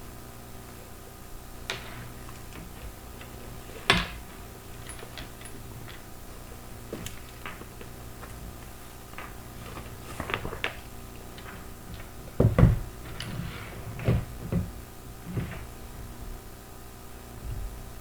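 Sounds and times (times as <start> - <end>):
heavy thumps: 1.6 - 16.4.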